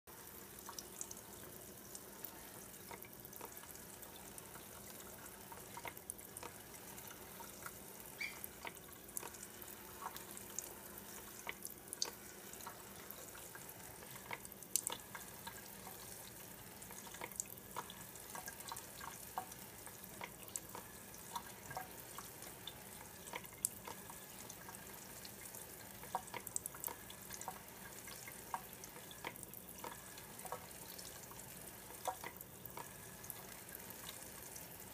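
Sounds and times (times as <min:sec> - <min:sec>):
water drops ticking: 0:00.6 - 0:34.6.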